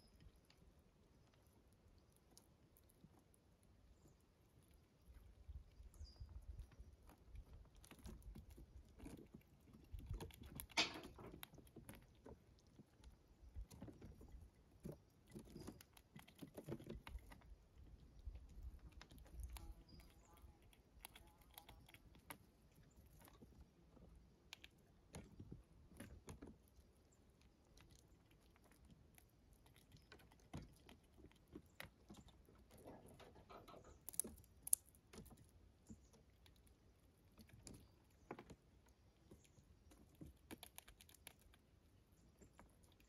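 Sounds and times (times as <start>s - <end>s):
squirrel chewing corn kernels: 0.0s - 43.0s.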